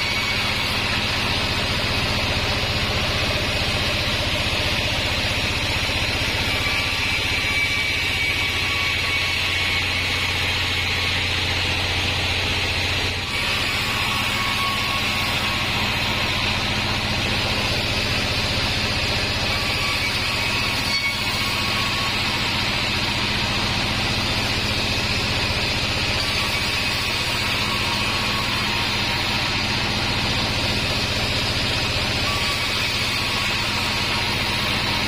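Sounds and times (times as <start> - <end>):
bandsaw running: 0.0 - 35.0.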